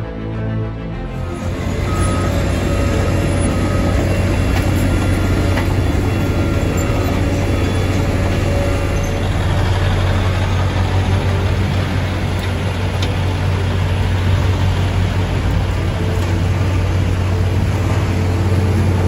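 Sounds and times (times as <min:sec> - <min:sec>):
heavy diesel engines droning: 0:00.0 - 0:19.0.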